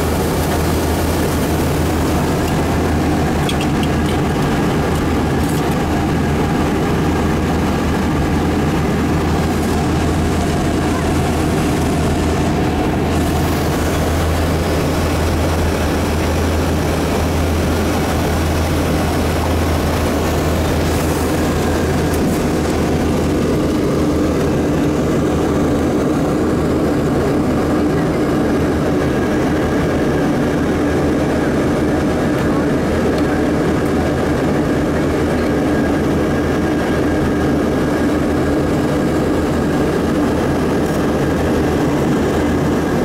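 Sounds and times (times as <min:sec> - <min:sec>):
airliner cabin noise: 0:00.0 - 0:43.0
low engine drone: 0:00.0 - 0:43.0
steady higher hum: 0:00.0 - 0:43.0.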